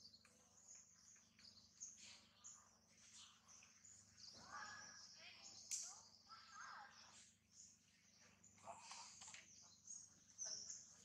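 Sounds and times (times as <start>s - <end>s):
faint high bird chirps: 0.0s - 11.0s.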